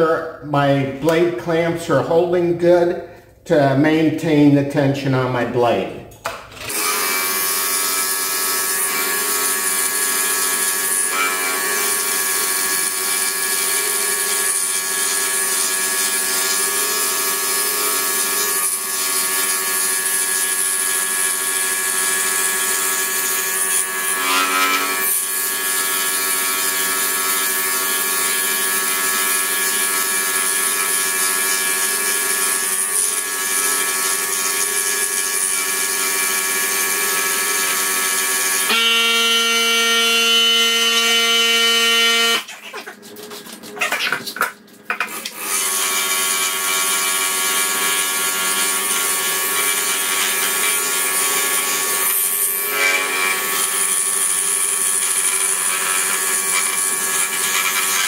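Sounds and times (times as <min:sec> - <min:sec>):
scroll saw cutting wood: 0:06.2 - 0:58.0.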